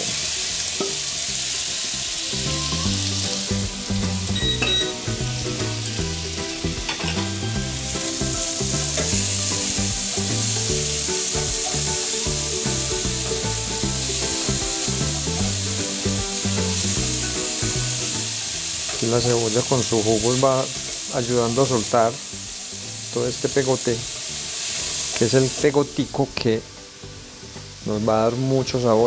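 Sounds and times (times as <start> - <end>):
onion sizzling in a frying pan: 0.0 - 29.0.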